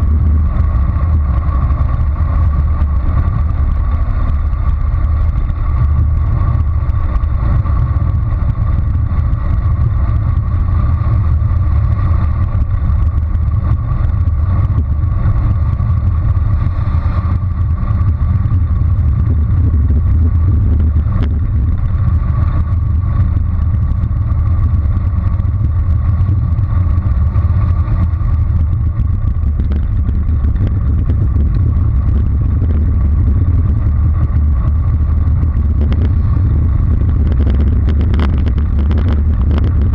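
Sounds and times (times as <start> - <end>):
tyres rolling on rough asphalt: 0.0 - 39.9
wind rumble on microphone: 0.0 - 39.9.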